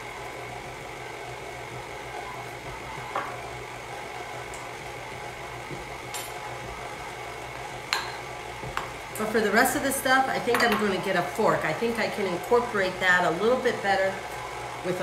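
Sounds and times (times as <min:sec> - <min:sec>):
stand mixer motor hum: 0:00.0 - 0:15.0.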